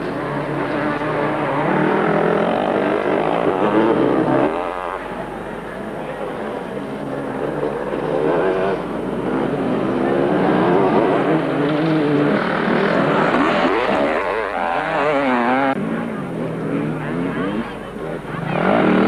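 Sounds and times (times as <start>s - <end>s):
motocross bikes revving: 0.0s - 19.0s.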